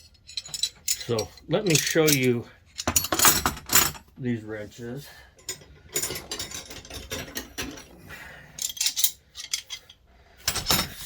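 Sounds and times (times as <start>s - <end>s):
metal wrenches clinking: 0.0s - 4.1s, 5.4s - 8.0s, 8.6s - 11.0s.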